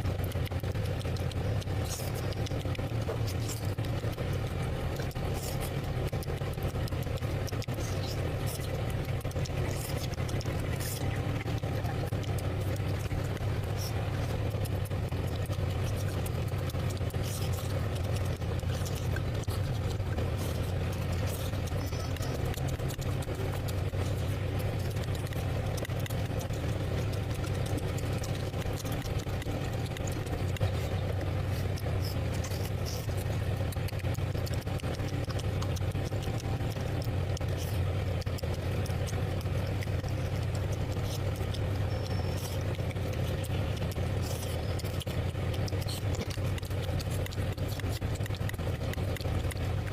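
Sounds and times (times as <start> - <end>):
low hum: 0.0 - 49.9
person eating: 0.0 - 49.9.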